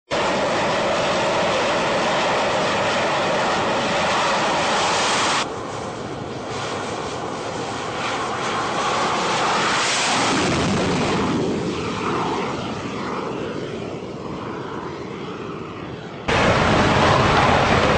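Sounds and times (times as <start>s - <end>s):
jet engine roar: 0.1s - 17.9s.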